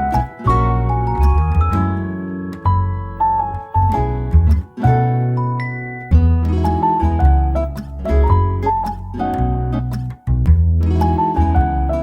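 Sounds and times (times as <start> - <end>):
plucked guitar notes: 0.0 - 12.0
steady bass line: 0.0 - 12.0.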